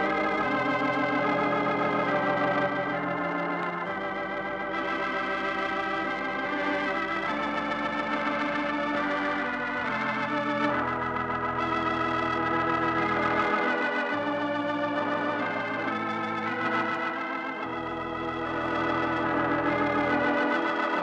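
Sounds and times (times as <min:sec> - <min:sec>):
organ chords with tremolo: 0:00.0 - 0:21.0.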